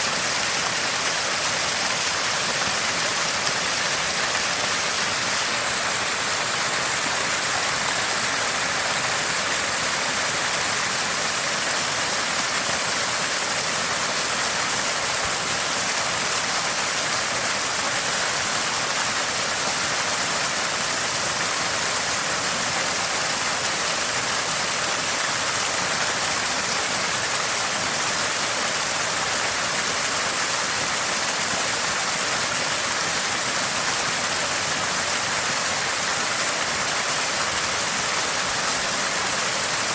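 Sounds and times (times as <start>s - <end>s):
water gurgling from spring: 0.0s - 39.9s.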